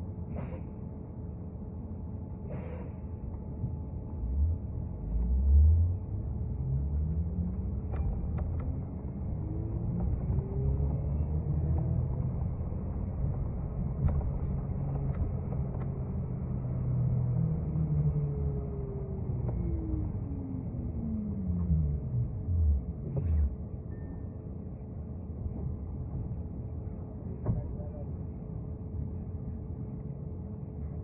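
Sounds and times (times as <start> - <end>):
bus drivetrain rumble and whine: 0.0 - 31.0.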